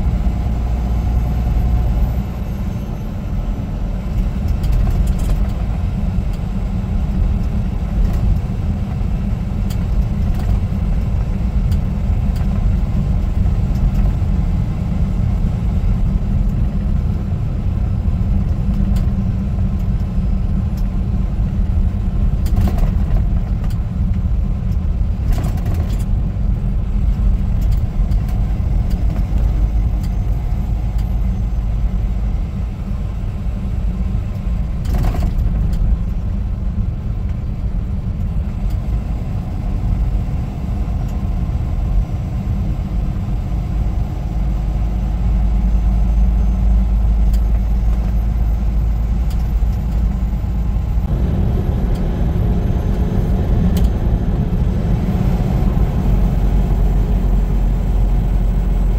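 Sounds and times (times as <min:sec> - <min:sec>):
truck engine and road noise: 0:00.0 - 0:58.9.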